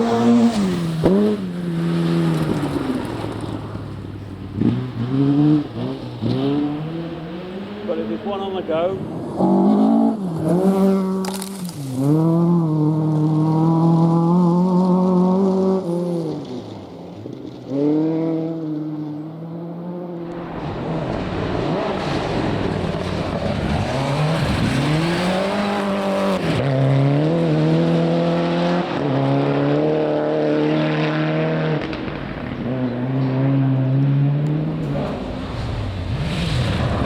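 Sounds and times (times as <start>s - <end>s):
rally car engine revving: 0.0s - 37.0s
tyre and road noise: 0.0s - 37.0s.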